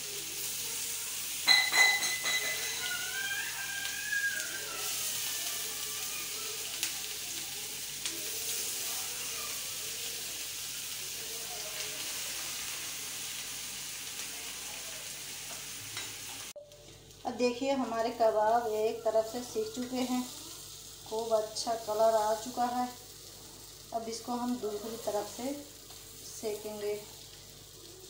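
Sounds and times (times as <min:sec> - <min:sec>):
food sizzling in oil: 0:00.0 - 0:28.0.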